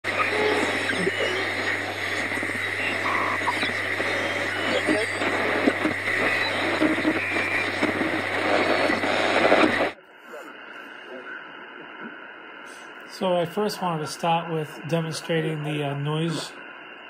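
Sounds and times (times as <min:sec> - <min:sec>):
radio static hiss: 0:00.0 - 0:17.0
steady low hum: 0:00.0 - 0:17.0.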